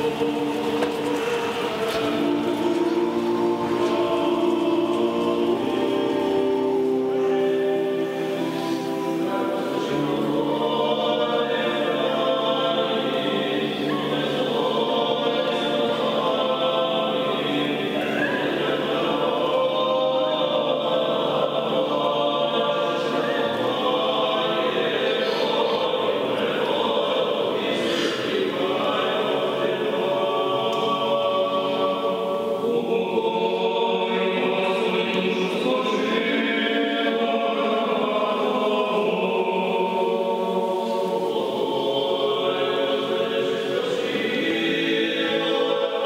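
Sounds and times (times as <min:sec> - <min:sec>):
choir chanting: 0:00.0 - 0:46.0.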